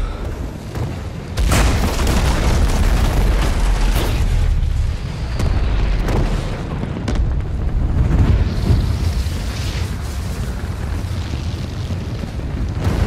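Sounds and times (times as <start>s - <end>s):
fire roaring: 0.0s - 13.0s.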